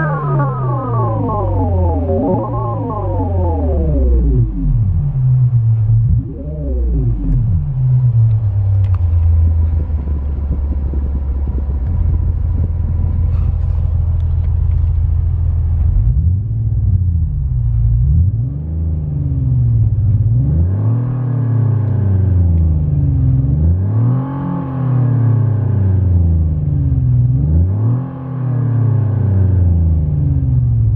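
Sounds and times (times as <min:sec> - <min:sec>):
artificial engine sound revving: 0:00.0 - 0:15.0, 0:16.0 - 0:26.3.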